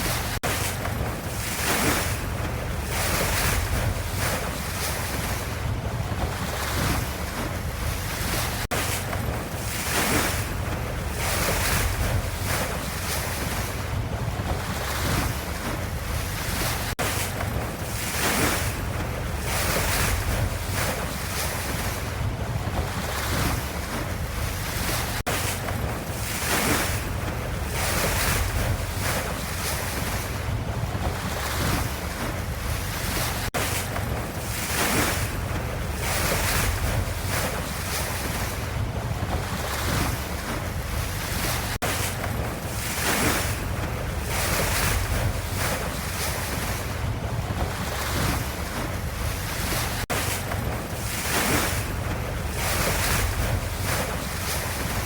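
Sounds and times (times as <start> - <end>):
ocean waves washing: 0.0 - 55.0.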